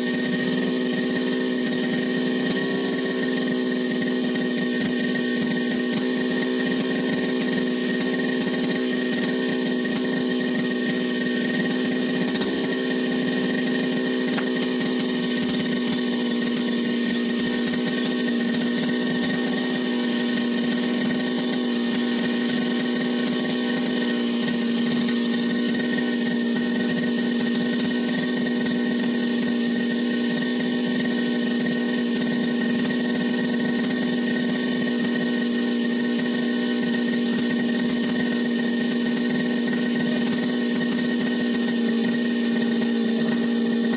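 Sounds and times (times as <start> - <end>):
brush cutter engine running: 0.0 - 43.9.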